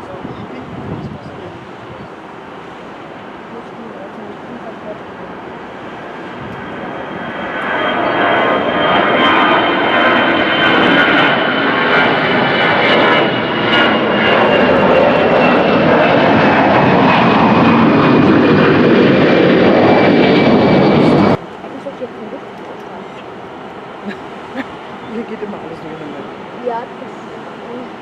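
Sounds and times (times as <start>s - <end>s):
jet engines running with high whine: 0.0s - 28.0s.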